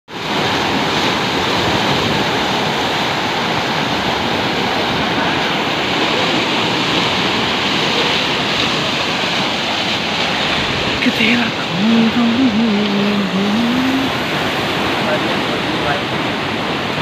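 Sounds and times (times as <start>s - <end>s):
river rushing and churning: 0.1s - 17.0s.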